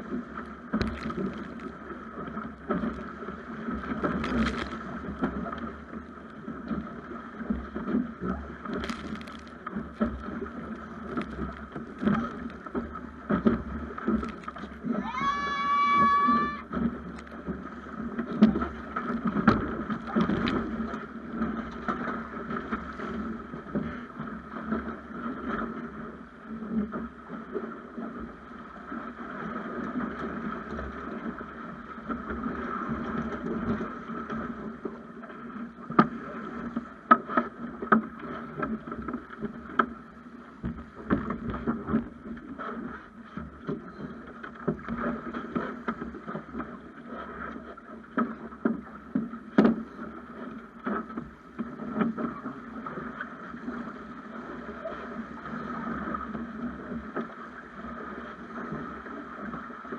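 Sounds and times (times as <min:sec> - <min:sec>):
water rushing along hull: 0:00.0 - 0:59.9.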